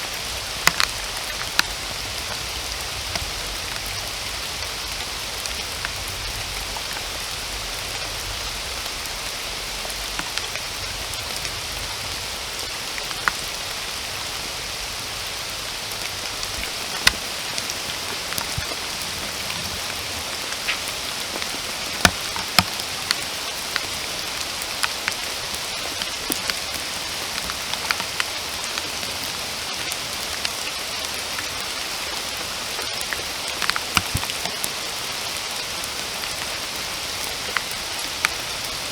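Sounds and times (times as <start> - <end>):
heavy raindrops striking: 0.0 - 38.9
rain hissing: 0.0 - 38.9.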